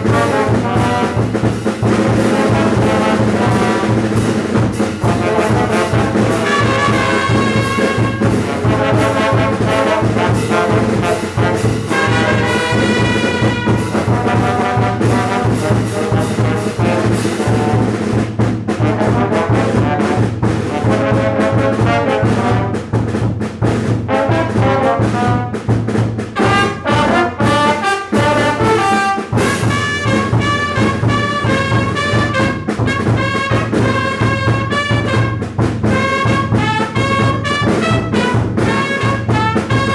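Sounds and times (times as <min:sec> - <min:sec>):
trumpets and trombones melody: 0:00.0 - 0:23.1, 0:24.0 - 0:25.7, 0:26.3 - 0:39.9
brass band playing: 0:00.0 - 0:39.9.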